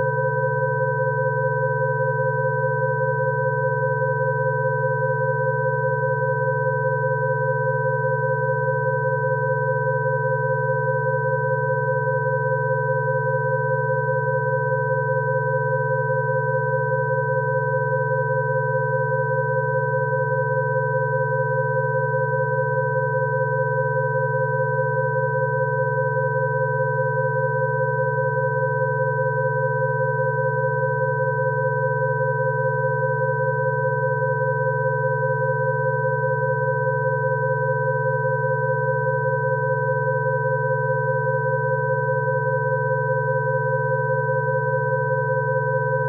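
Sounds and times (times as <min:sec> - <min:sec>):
electronic sine tones: 0:00.0 - 0:46.0.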